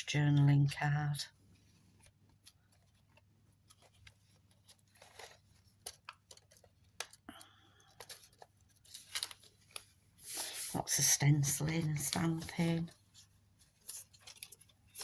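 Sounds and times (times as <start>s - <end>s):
paper rustling: 1.4s - 15.0s.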